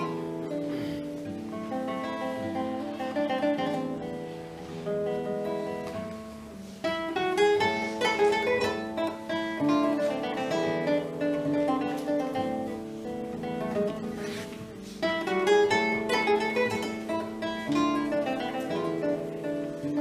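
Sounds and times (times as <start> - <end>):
solo acoustic guitar: 0.0 - 20.0.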